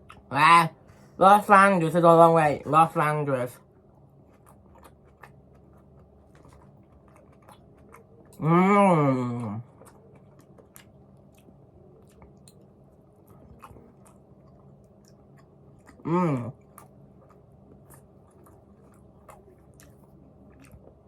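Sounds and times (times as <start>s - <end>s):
person chewing crunchy salad: 3.6s - 21.0s.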